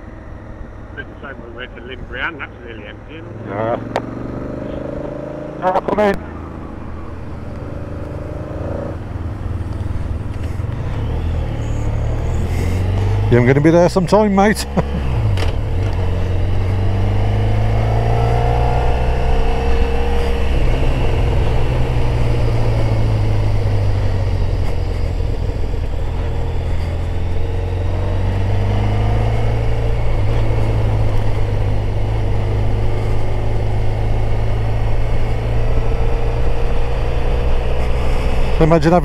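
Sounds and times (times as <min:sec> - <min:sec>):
motorcycle engine running: 0:03.2 - 0:39.0.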